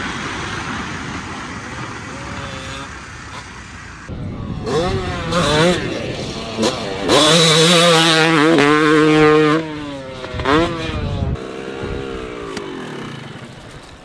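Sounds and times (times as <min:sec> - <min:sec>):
dirt bike engine revving: 0:02.0 - 0:03.5, 0:04.1 - 0:13.9.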